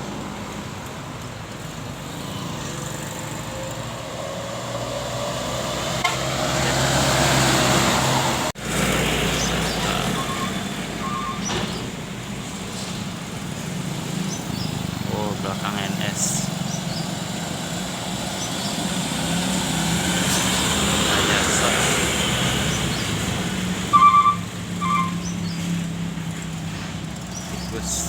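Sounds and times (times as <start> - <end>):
bus passing close: 0.0 - 28.0
traffic: 0.0 - 28.0.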